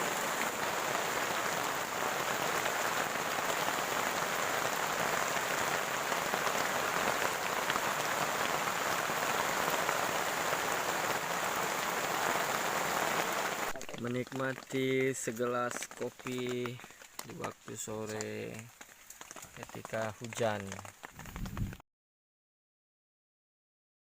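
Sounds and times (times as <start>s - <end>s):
steady rain patter: 0.0s - 21.8s.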